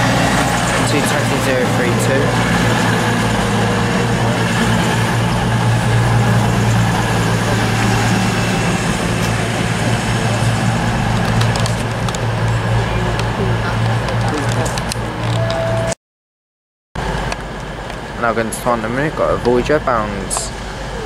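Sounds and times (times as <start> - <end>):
train diesel engines droning: 0.0 - 16.0, 17.0 - 21.0.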